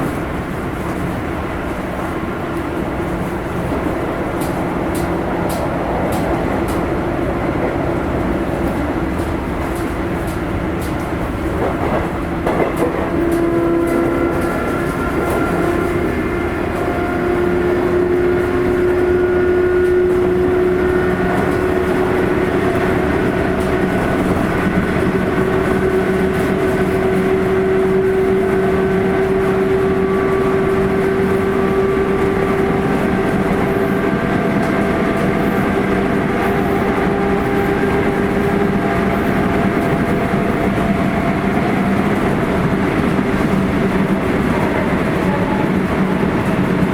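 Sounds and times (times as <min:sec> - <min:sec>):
electric train running rumble: 0:00.0 - 0:46.9.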